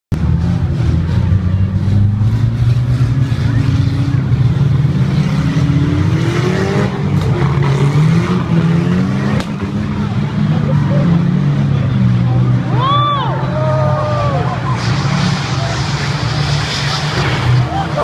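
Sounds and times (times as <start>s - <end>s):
racing car engines revving: 0.1s - 18.0s.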